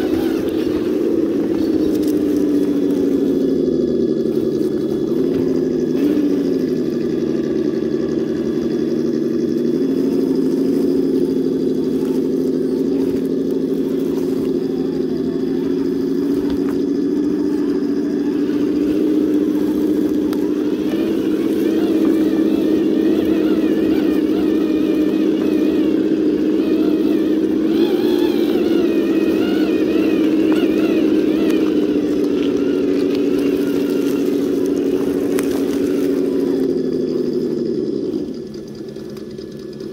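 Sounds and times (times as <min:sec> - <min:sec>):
electric motor and gearbox whining: 0:00.0 - 0:39.9.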